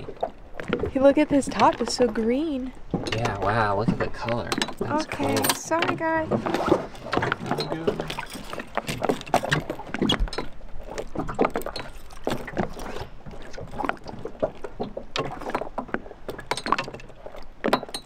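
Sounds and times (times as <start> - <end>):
water slapping against dinghy: 0.0 - 18.0.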